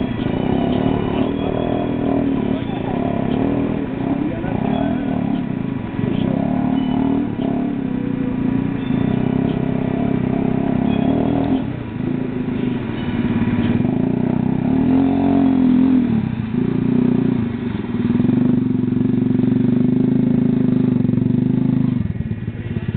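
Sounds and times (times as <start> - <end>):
atv engine running under load: 0.0 - 22.9.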